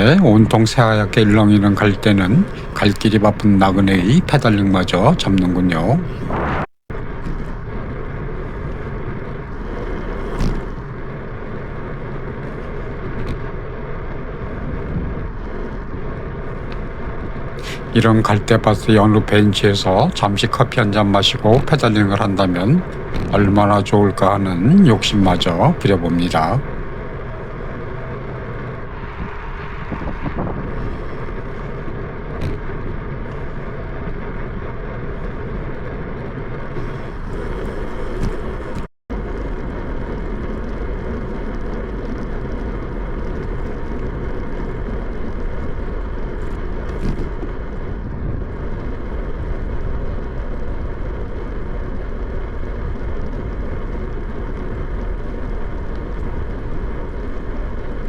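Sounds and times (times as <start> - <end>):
bicycle road noise: 0.0 - 58.0
wind rumble on microphone: 0.0 - 58.0.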